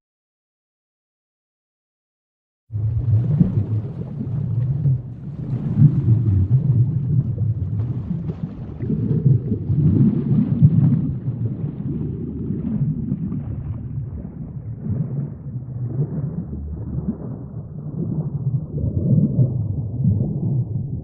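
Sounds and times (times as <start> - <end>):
low rumble of moving water: 2.7 - 21.0.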